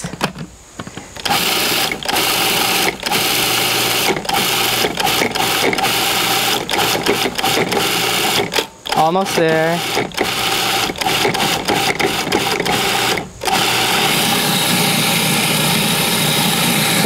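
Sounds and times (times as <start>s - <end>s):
food processor motor pulsing: 1.2s - 17.0s.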